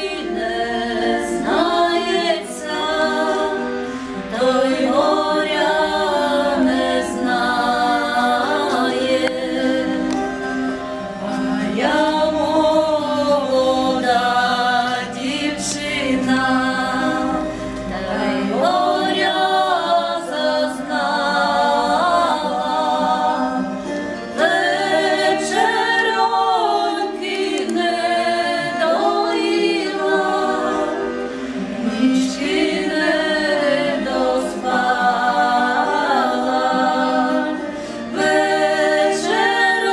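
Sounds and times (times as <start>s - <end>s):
women singing in harmony: 0.0s - 39.9s.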